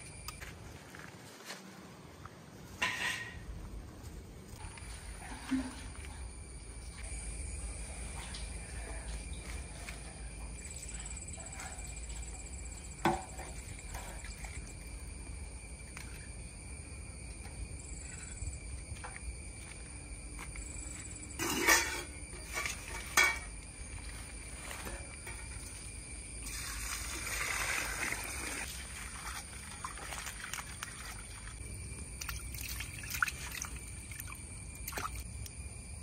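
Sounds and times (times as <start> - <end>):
high drone of insects: 0.0 - 36.0.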